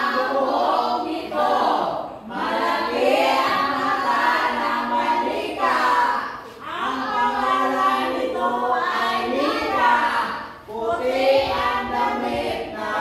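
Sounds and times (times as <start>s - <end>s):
group singing without instruments: 0.0s - 13.0s.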